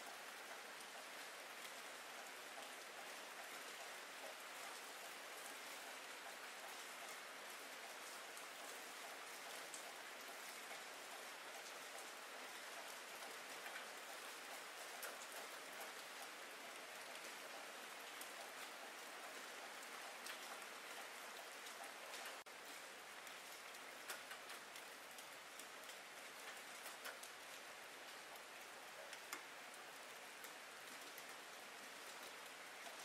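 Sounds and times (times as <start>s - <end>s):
rain hiss: 0.0s - 33.0s.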